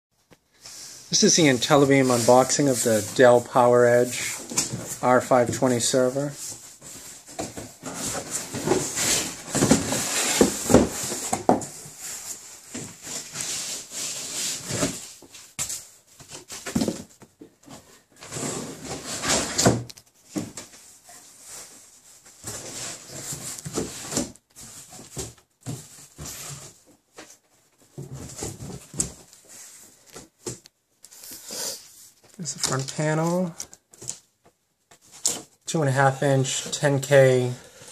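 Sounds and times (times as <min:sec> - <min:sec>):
cardboard rustling and scraping: 0:01.1 - 0:34.1.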